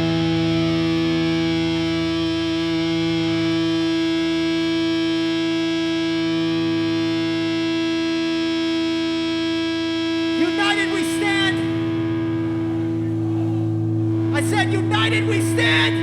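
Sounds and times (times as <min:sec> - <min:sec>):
distorted electric guitar drone: 0:00.0 - 0:16.0.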